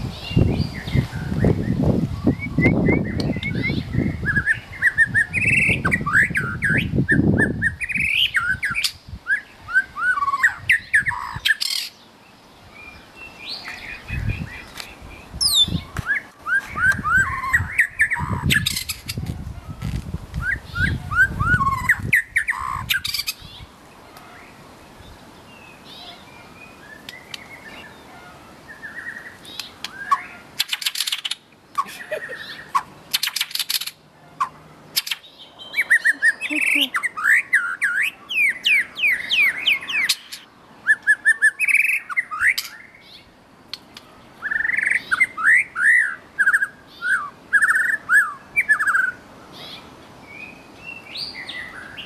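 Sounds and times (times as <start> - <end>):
bird singing whistled notes: 0.0 - 12.0, 12.7 - 24.6, 32.0 - 43.8, 44.4 - 52.0.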